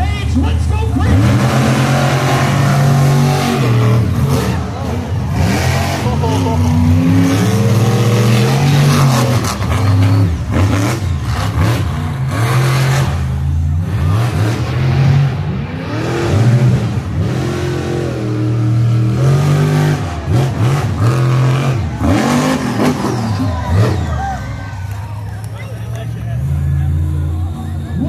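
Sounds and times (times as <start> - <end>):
monster truck engines revving: 0.0 - 28.0.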